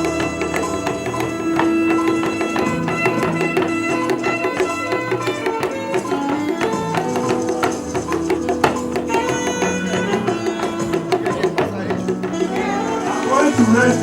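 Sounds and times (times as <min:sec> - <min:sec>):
held instrumental notes: 0:00.0 - 0:14.0
quick busy percussion: 0:00.0 - 0:14.0.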